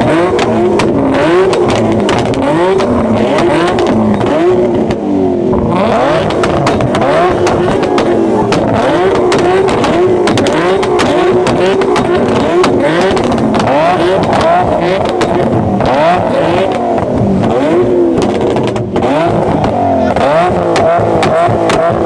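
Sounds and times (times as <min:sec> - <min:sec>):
car engines revving: 0:00.0 - 0:22.0
exhaust pops and bangs: 0:00.0 - 0:22.0.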